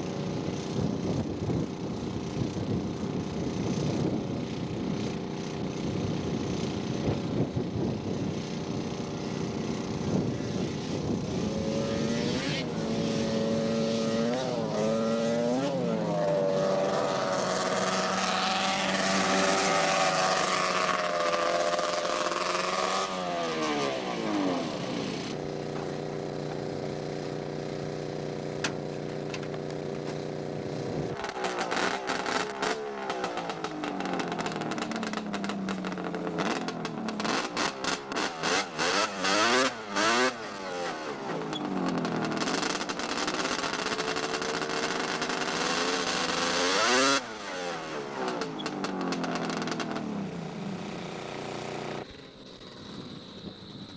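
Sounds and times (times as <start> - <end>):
snowmobile engine revving: 0.0 - 53.2.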